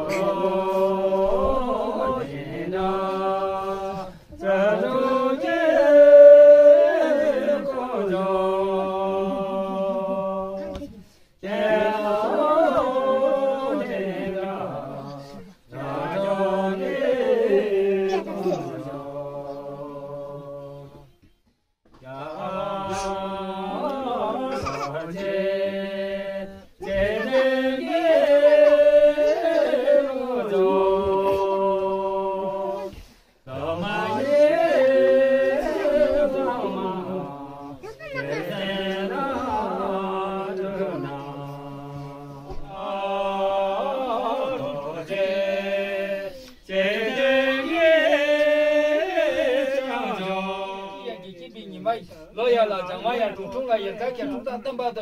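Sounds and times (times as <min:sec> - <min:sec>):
men singing: 0:00.0 - 0:21.2, 0:21.9 - 0:55.0.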